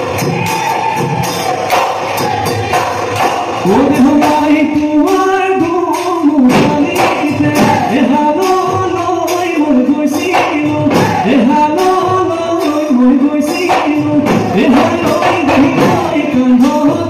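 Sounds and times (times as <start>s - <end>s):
drums beaten in quick rhythm: 0.0s - 17.0s.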